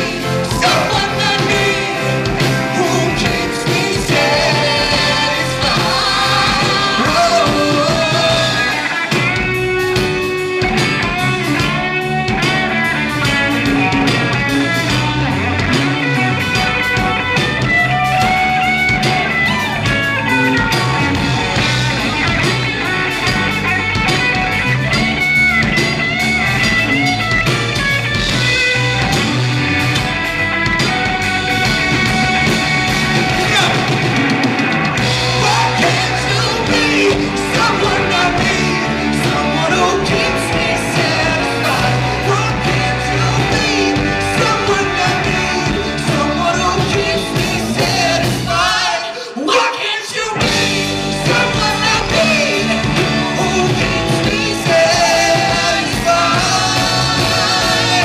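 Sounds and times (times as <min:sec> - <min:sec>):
guitar: 0:00.0 - 0:58.0
rock band playing live: 0:00.0 - 0:58.0.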